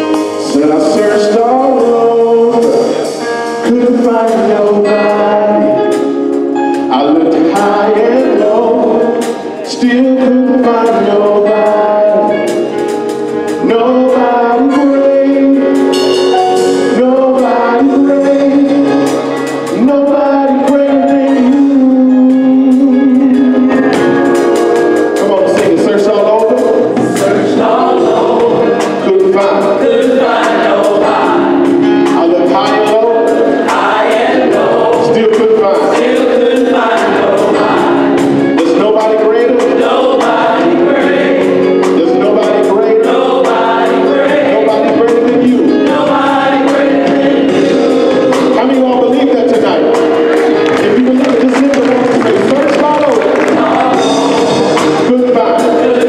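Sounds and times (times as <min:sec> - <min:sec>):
band with bass drums and organ: 0:00.0 - 0:56.0
gospel choir singing: 0:00.0 - 0:56.0.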